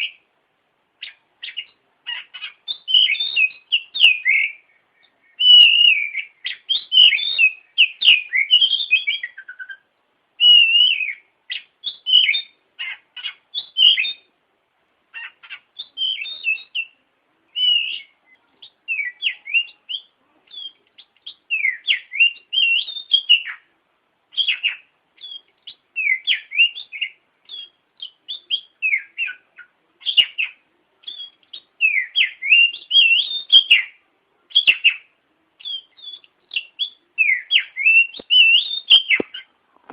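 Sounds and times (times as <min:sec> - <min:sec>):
bird singing whistled phrases: 0:01.0 - 0:14.3, 0:15.2 - 0:23.7, 0:24.3 - 0:39.5.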